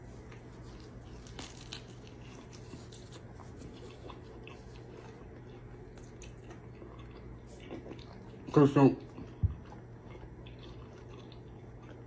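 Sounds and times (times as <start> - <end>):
steady low hum: 0.0 - 12.0
faint chewing: 0.2 - 12.0.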